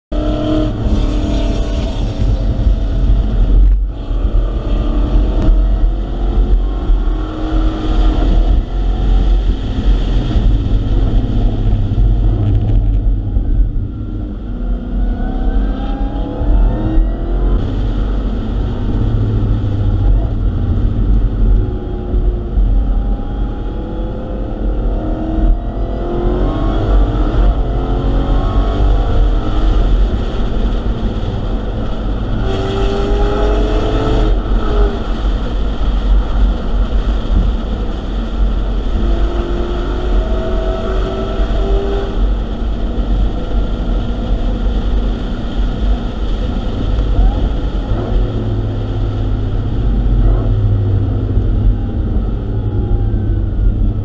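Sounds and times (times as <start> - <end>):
car engine revving: 0.1 - 54.0
road and wind noise: 0.1 - 54.0.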